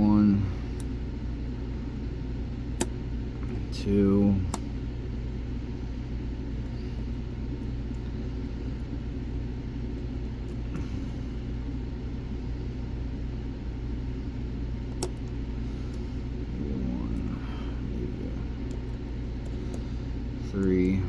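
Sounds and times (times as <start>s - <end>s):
low rumbling hum: 0.0s - 21.0s.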